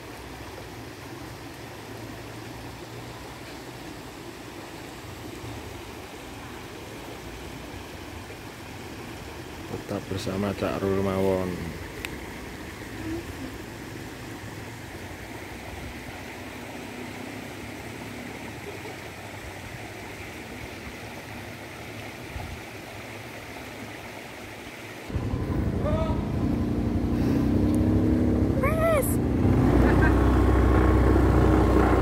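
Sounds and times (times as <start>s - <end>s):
stream running over stones: 0.0s - 25.3s, 25.9s - 32.0s.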